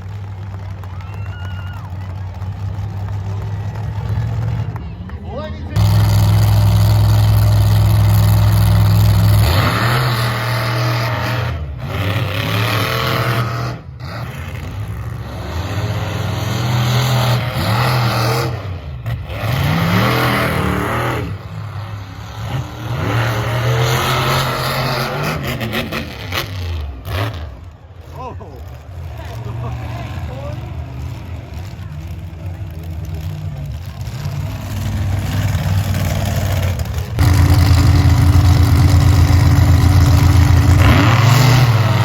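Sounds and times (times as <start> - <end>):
truck engine revving: 1.8 - 42.0.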